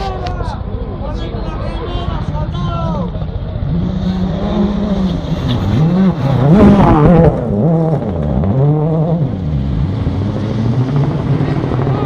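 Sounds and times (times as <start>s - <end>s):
rally car engine revving: 2.1s - 12.0s.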